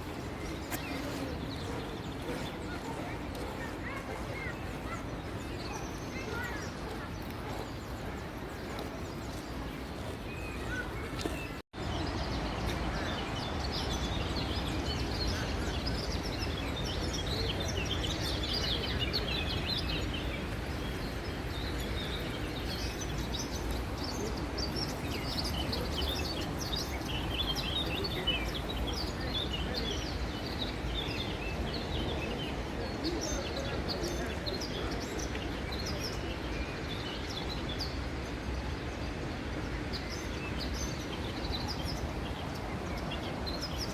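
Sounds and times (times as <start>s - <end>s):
outdoor background noise: 0.0s - 43.9s
small birds chirping: 0.0s - 43.9s.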